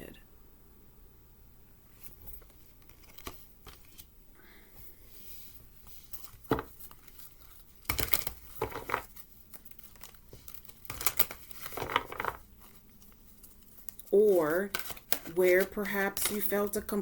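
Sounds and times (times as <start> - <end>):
cards rustling: 1.9 - 4.1, 5.2 - 17.0.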